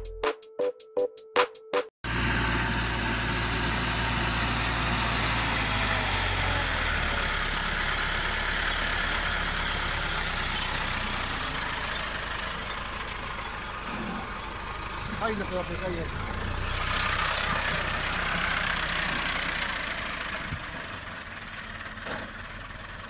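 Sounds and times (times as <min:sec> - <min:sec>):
tractor diesel engine running: 0:02.0 - 0:23.0.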